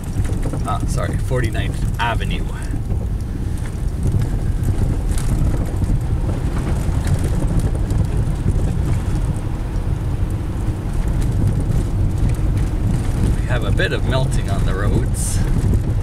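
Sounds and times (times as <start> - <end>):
car driving slowly: 0.0 - 16.0.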